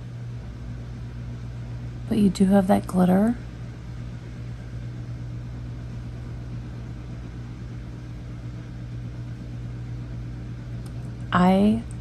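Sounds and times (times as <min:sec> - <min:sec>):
low appliance hum: 0:00.0 - 0:12.0.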